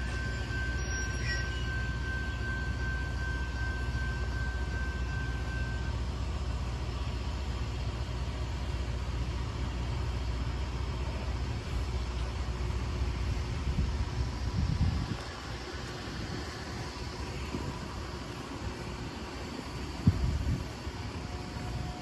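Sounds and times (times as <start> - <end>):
thin high whine: 0.0 - 22.0
truck engine rumble: 0.0 - 22.0.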